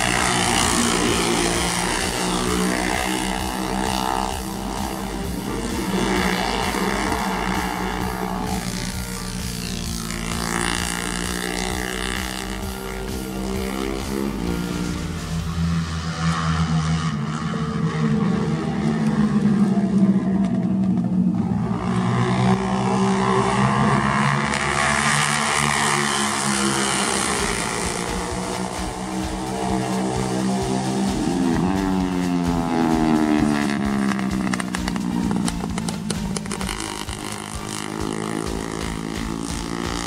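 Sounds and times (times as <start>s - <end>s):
racing motorcycles passing: 0.0s - 40.0s.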